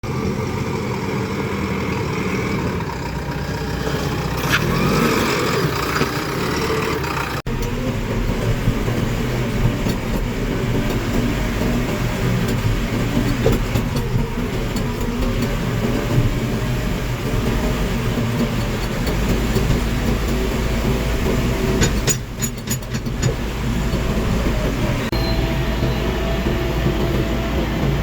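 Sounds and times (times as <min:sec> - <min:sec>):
heavy diesel machinery running: 0:00.0 - 0:28.0.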